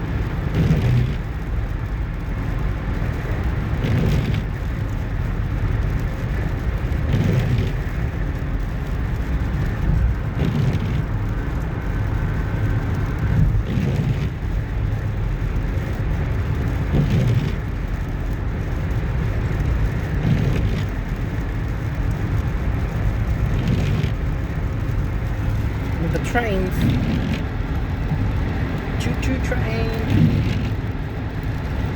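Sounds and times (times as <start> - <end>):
tyre and engine rumble: 0.0 - 31.9.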